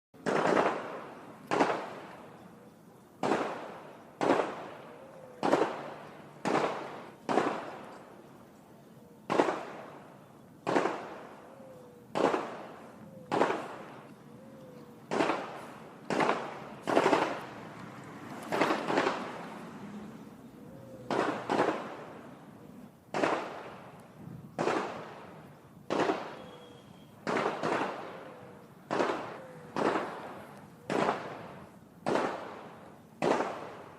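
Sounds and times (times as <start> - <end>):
distant gunshots with echo: 0.2 - 2.4, 3.2 - 8.2, 9.2 - 14.2, 15.0 - 17.6, 18.5 - 19.6, 21.0 - 22.3, 23.1 - 33.9.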